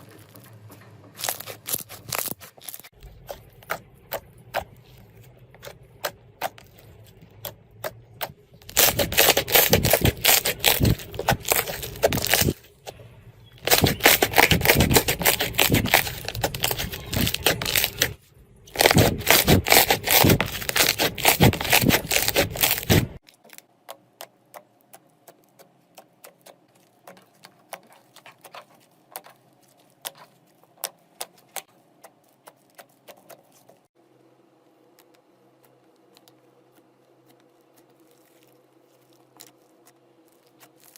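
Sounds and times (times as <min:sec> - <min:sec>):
crunchy slime crackling: 0:00.0 - 0:23.7, 0:24.9 - 0:33.9, 0:34.9 - 0:40.9.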